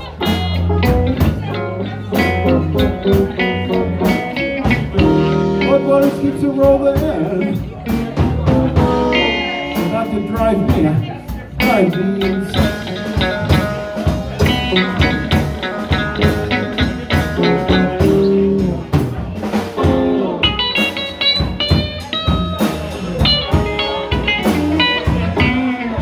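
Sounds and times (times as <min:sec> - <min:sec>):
blues band playing: 0:00.0 - 0:26.0.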